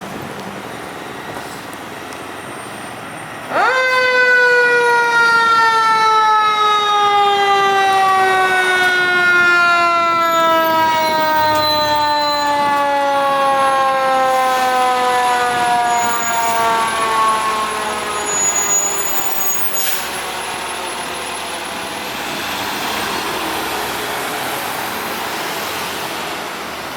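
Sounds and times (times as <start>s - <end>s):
fire engine siren: 2.5s - 26.9s.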